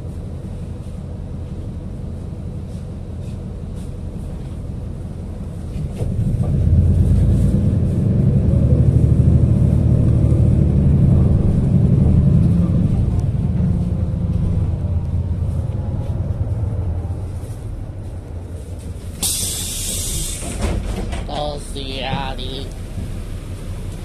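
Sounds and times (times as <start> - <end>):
bus engine rumbling: 0.0 - 24.0.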